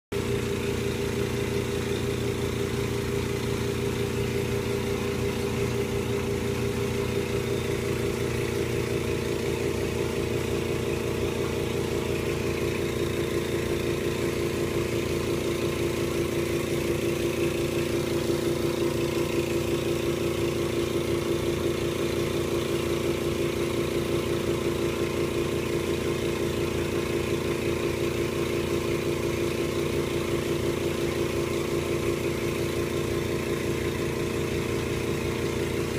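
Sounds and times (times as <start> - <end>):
aquarium air pump humming: 0.1 - 35.9.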